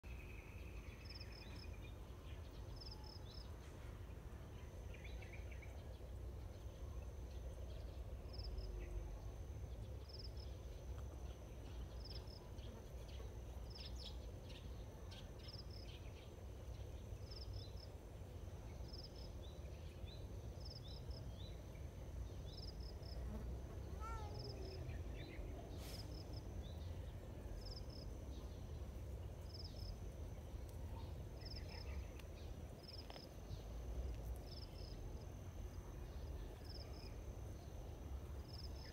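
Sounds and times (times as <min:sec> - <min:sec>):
insect chirping: 0:00.0 - 0:03.5, 0:04.5 - 0:38.9
faint high hum: 0:00.0 - 0:38.9.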